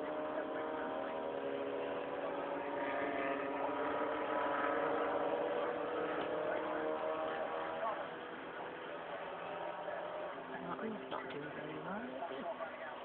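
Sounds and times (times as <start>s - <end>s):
race car engine droning: 0.0s - 13.0s.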